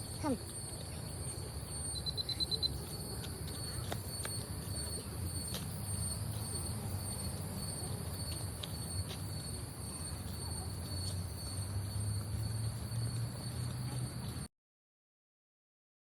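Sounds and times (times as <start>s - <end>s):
tropical insects droning: 0.0s - 14.5s.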